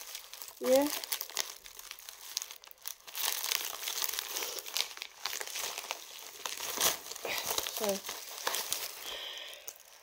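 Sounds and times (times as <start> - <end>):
plastic mailer crinkling: 0.0 - 10.0.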